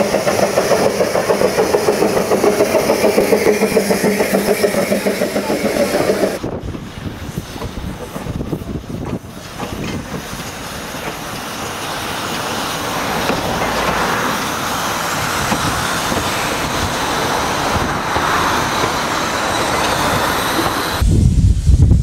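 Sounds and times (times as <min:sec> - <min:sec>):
train wheels on rails: 0:00.0 - 0:21.1
steam locomotive passing: 0:00.0 - 0:21.7.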